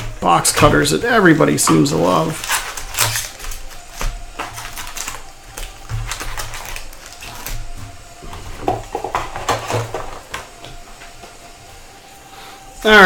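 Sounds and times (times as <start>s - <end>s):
plastic and cardboard tearing: 0.0s - 11.2s.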